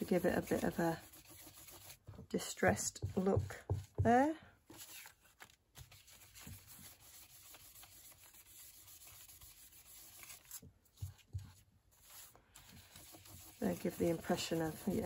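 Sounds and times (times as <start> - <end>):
blending brush rubbing on cardstock: 0.0 - 15.0.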